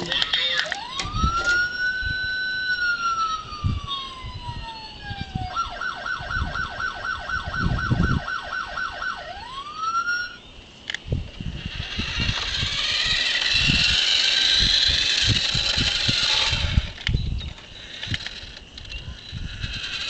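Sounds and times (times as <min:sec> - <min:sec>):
electronic police siren: 0:00.1 - 0:10.4, 0:11.4 - 0:20.0.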